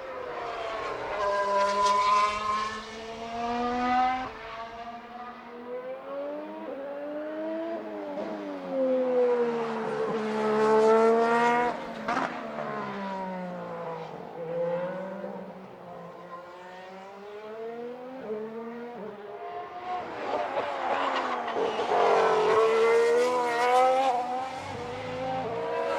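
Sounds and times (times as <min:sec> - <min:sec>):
racing car engines: 0:00.0 - 0:25.9.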